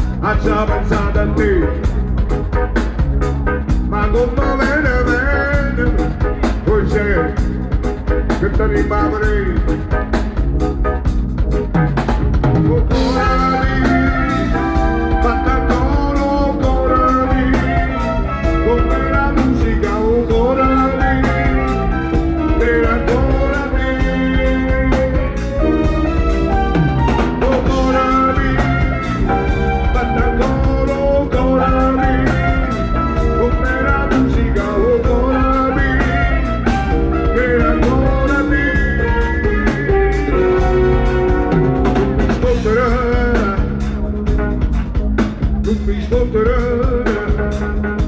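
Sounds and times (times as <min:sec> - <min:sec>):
live band music: 0:00.0 - 0:48.0
steady drum beat: 0:00.0 - 0:48.0.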